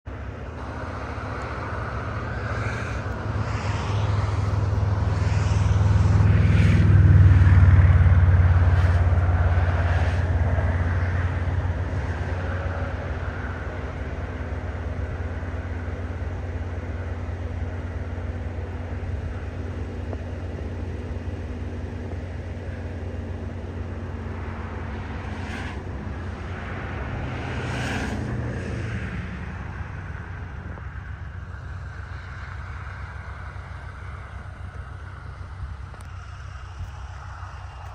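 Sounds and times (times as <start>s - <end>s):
steam train rumbling: 0.1s - 37.9s.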